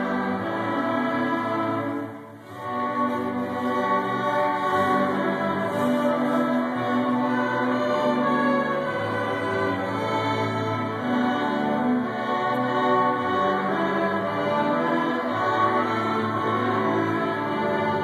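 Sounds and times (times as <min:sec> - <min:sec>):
string orchestra playing: 0:00.0 - 0:18.0.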